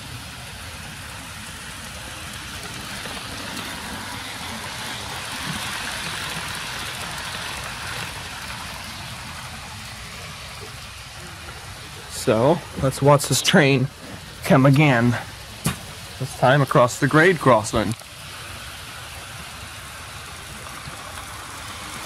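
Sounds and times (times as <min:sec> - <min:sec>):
model train motor and wheels on rails: 0:00.0 - 0:22.0.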